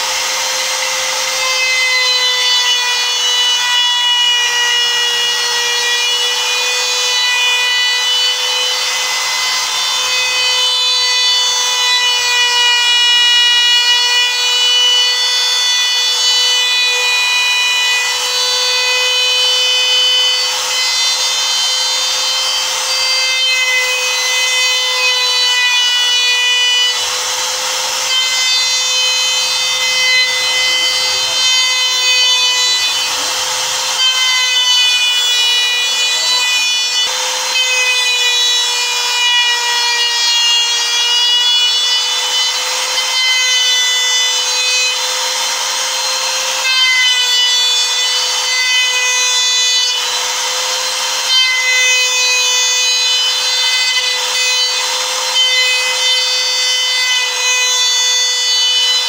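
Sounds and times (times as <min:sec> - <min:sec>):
router cutting wood: 0:00.0 - 0:59.0.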